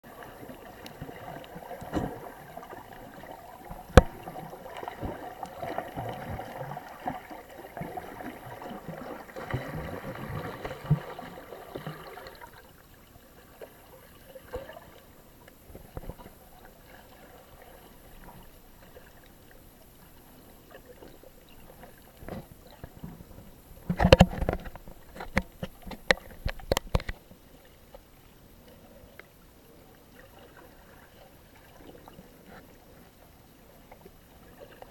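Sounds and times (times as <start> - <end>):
muffled water sloshing underwater: 0.0 - 34.9.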